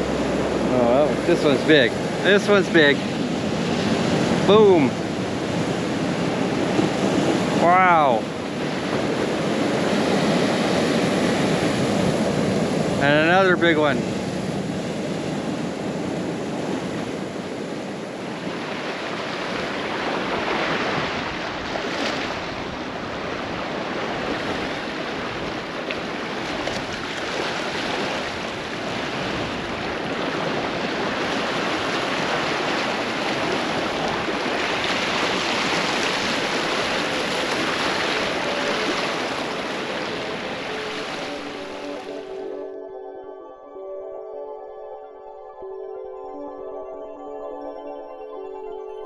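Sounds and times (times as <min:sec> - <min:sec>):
surf breaking over rocks: 0:00.0 - 0:42.3.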